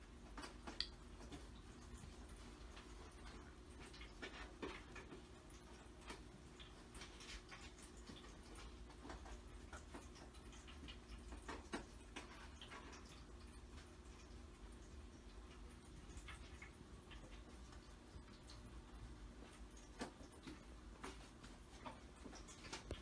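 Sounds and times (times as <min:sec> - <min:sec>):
small clicks and taps: 0:00.2 - 0:23.0.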